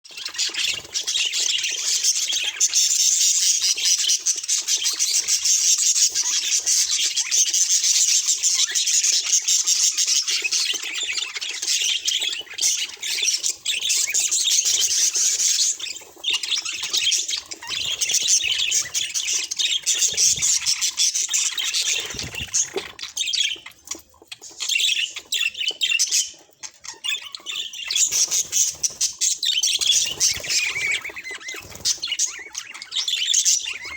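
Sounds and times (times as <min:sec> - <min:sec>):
budgerigar chirps and squawks: 0:00.1 - 0:33.9.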